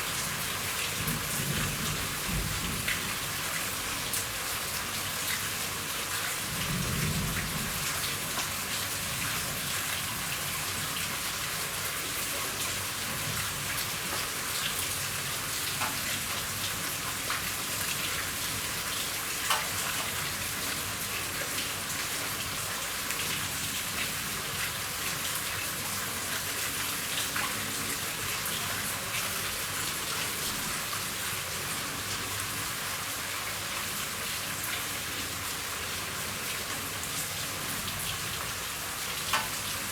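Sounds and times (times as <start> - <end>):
rain pattering on a roof: 0.0 - 39.9.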